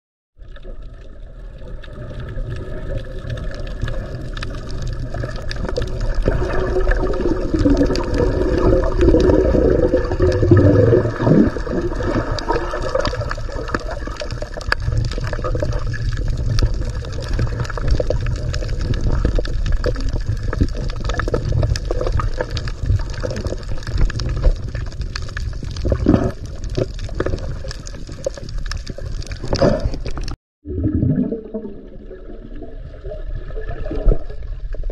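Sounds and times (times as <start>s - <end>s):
water sloshing and gurgling: 0.4s - 34.9s.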